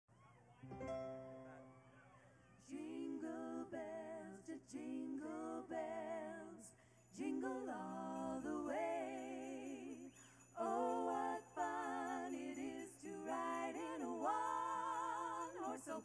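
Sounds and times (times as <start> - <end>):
women singing in harmony: 2.6 - 16.0.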